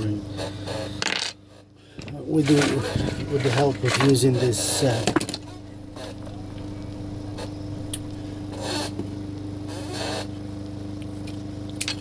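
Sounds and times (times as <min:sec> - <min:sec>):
electrical hum: 0:01.7 - 0:12.0.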